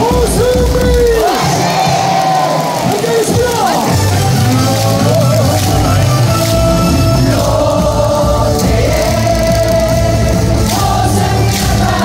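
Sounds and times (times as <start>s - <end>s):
loud amplified music: 0.0s - 12.0s
crowd singing in unison: 1.1s - 12.0s.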